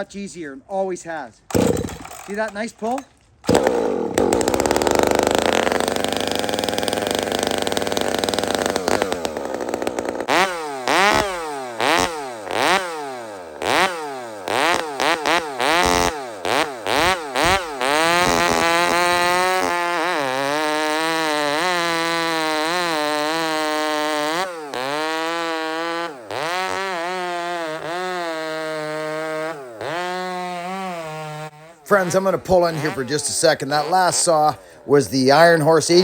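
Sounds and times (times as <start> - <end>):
chainsaw revving: 1.5 - 2.6, 3.4 - 36.0.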